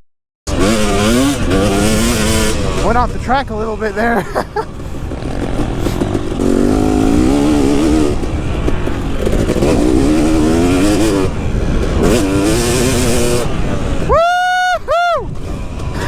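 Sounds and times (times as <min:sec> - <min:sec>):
motocross engine revving: 0:00.5 - 0:14.2.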